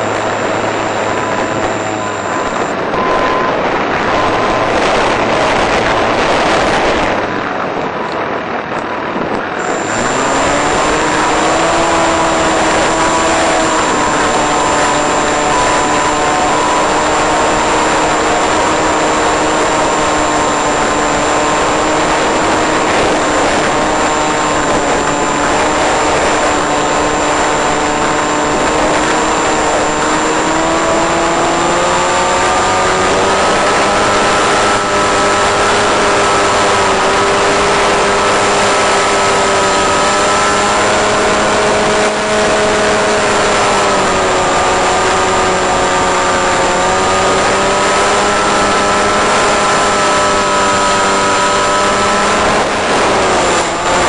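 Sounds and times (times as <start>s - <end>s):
model plane motor whine: 0.0s - 54.0s.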